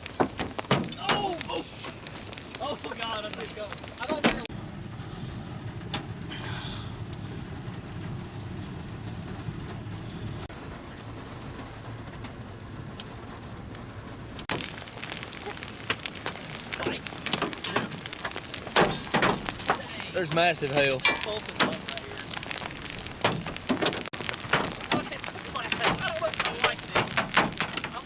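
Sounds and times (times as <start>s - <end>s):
hailstones clattering: 0.0s - 4.5s, 8.0s - 28.0s
heavy rain pounding: 0.0s - 4.9s, 5.5s - 28.0s.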